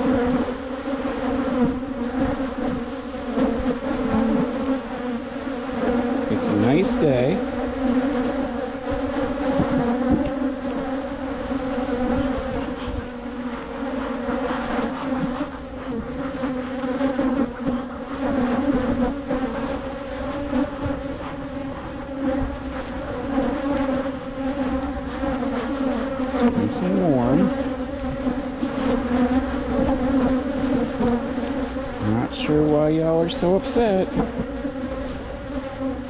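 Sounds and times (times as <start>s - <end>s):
honeybees buzzing loudly: 0.0s - 36.0s.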